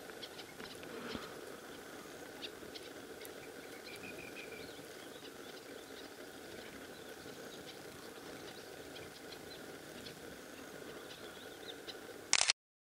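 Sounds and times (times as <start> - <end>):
finches chirping: 0.0 - 12.2
steady background hiss: 0.0 - 12.5.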